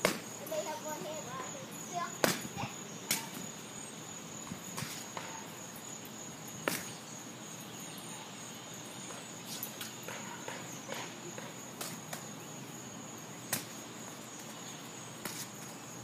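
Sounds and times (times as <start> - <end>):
high insect trill: 0.0 - 16.0.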